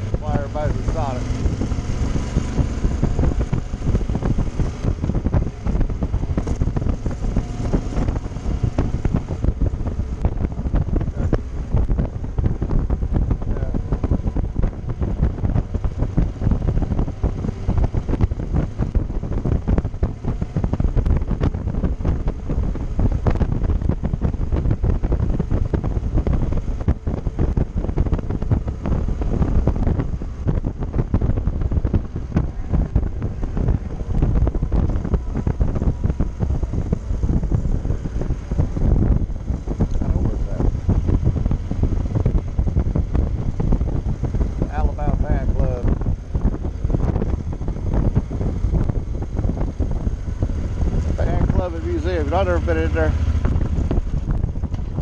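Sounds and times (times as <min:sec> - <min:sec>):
road noise rumble: 0:00.0 - 0:55.0
wind buffeting microphone: 0:00.0 - 0:55.0.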